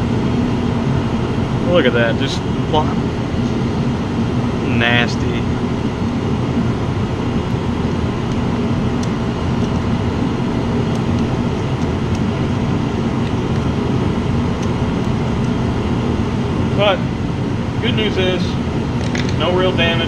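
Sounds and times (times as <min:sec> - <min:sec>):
mechanical drone with low hum: 0:00.0 - 0:20.0.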